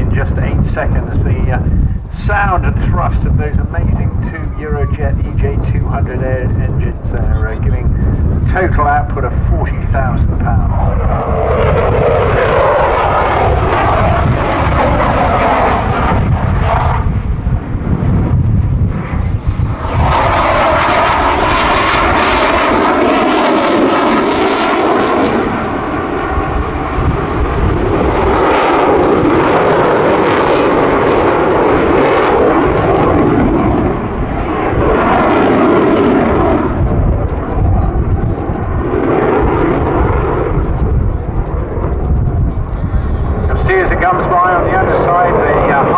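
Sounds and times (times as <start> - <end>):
jet engines roaring: 0.0 - 45.9.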